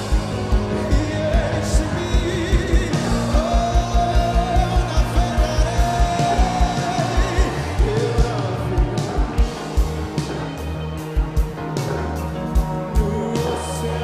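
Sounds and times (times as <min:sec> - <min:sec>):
person singing: 0:00.0 - 0:09.8, 0:12.6 - 0:14.0
worship band playing: 0:00.0 - 0:14.0.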